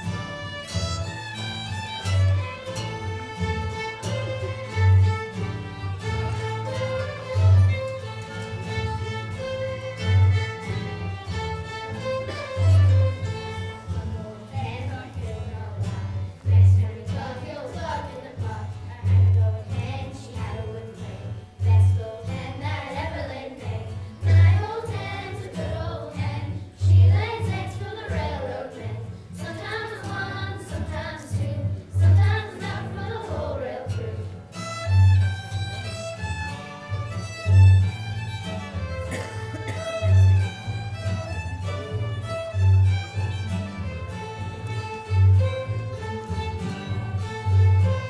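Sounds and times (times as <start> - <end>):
bluegrass string band playing: 0.0 - 48.0
fiddles: 0.0 - 48.0.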